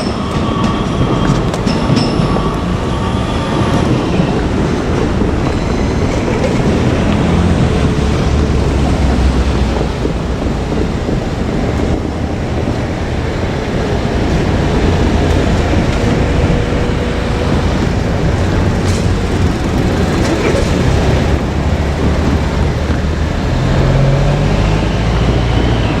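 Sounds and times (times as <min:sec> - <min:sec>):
electric train rumbling: 0:00.0 - 0:26.0.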